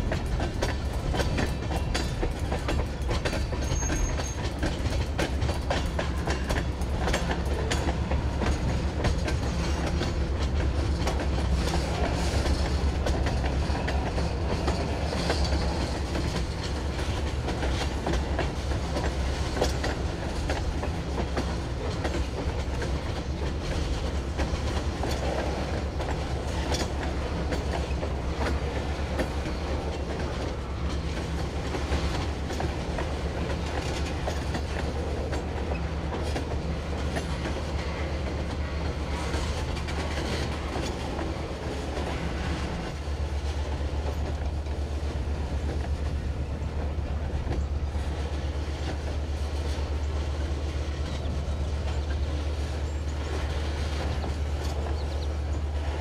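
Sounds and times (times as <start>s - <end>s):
diesel locomotive rumble: 0.0s - 56.0s
train wheels clicking on rails: 0.0s - 56.0s.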